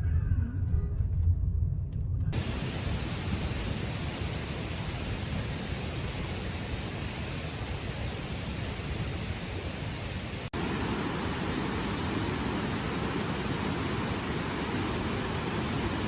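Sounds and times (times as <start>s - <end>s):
waterfall rushing: 2.4s - 16.0s.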